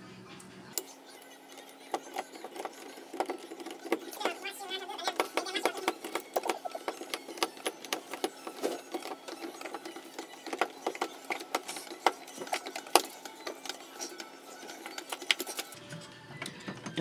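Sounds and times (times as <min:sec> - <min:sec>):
screwdriver clicking and scraping: 0:00.8 - 0:15.8.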